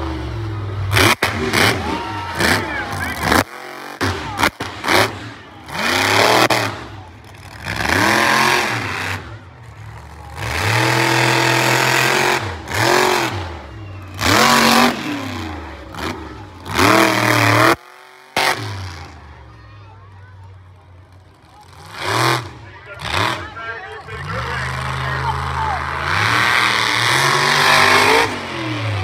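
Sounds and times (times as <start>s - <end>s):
truck engine revving: 0.0s - 19.6s, 20.4s - 29.0s.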